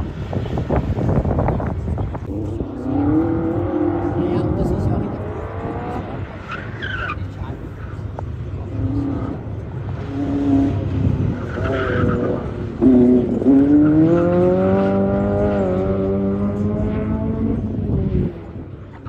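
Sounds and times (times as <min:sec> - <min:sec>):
sports car engine revving: 0:00.6 - 0:19.0.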